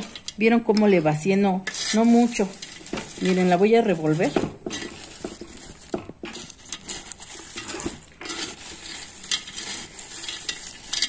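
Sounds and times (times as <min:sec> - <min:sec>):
pumice stones rattling and clicking: 0:00.0 - 0:11.0.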